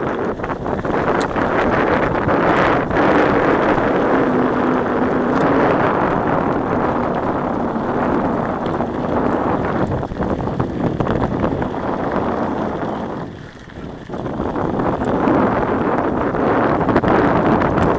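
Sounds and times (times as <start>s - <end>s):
bike rattles and knocks: 0.0s - 17.9s
tyres rumbling on gravel: 0.0s - 17.9s
wind buffeting microphone: 0.0s - 17.9s.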